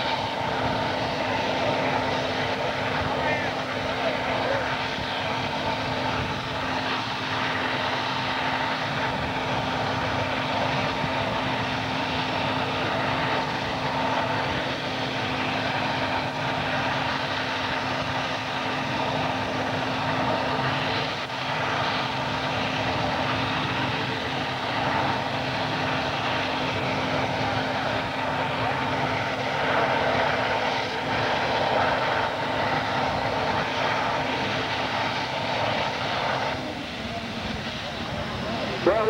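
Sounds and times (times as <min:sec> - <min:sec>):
constant low hum: 0:00.0 - 0:39.0
tractor engines running loud: 0:00.0 - 0:39.0.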